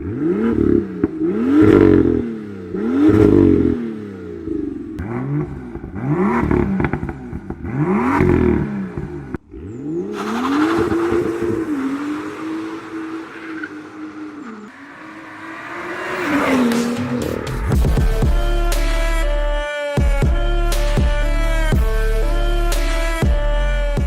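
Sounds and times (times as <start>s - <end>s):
exhaust crackling: 0.0s - 19.5s
car engine revving: 0.0s - 24.0s.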